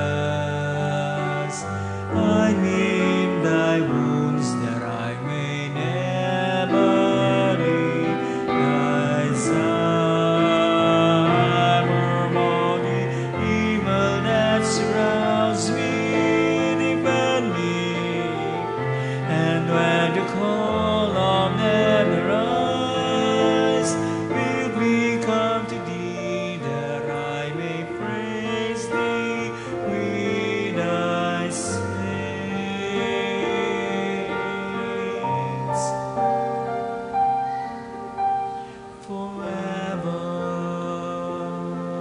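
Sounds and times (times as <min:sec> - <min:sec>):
congregation singing a hymn: 0:00.0 - 0:36.4, 0:39.0 - 0:42.0
keyboard chords: 0:00.0 - 0:42.0.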